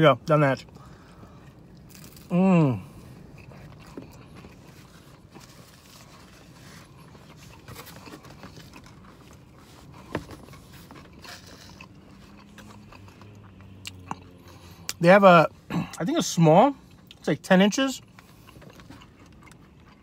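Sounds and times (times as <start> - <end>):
person chewing: 0.7 - 15.0, 16.8 - 17.2, 18.0 - 20.0.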